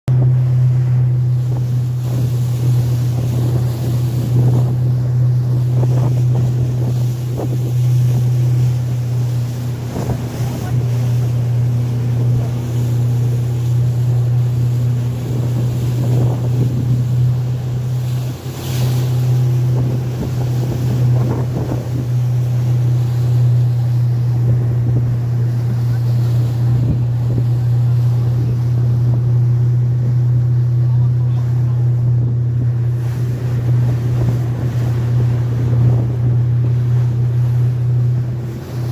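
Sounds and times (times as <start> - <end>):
motorboat engine droning: 0.0 - 38.9
water splashing against hull: 0.1 - 38.9
wind buffeting microphone: 0.1 - 38.9.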